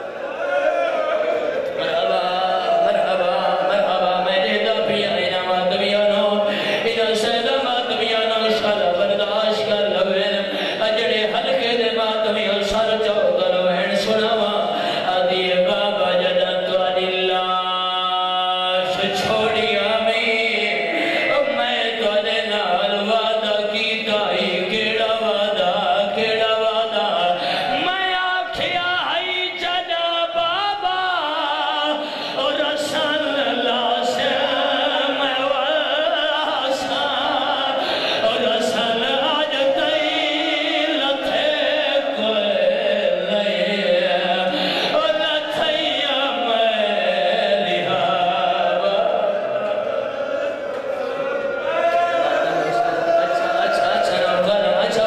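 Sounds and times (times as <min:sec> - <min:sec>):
man chanting over a microphone: 0:01.4 - 0:55.0.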